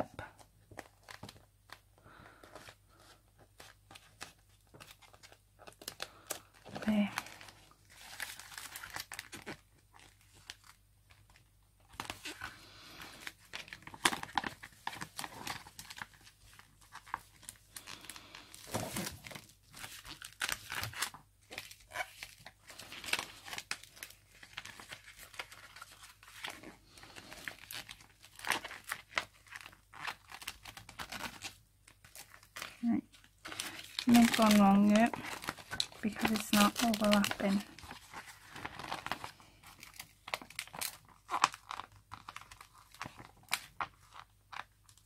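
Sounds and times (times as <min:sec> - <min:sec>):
paper rustling and crinkling: 0:00.2 - 0:45.0.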